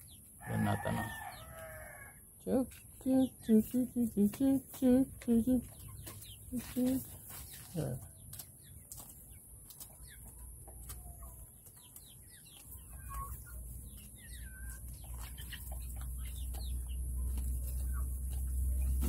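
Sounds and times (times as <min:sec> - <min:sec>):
chickens clucking and chirping: 0:00.0 - 0:19.0.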